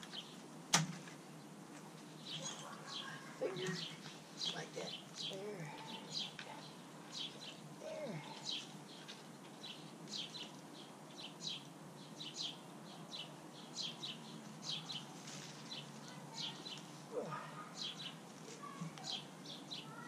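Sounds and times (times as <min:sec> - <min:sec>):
songbird chirping: 0:00.0 - 0:20.0
steady background noise: 0:00.0 - 0:20.0.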